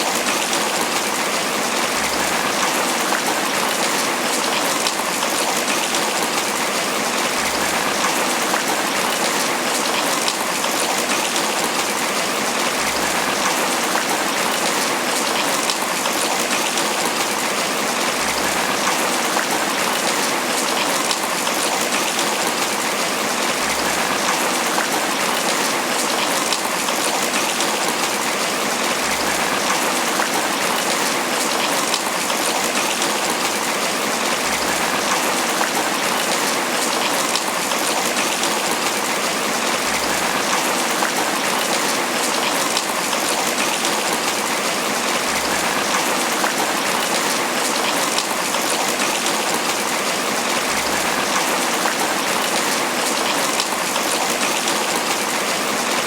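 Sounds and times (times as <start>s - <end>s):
heavy rain pattering on leaves: 0.0s - 56.0s.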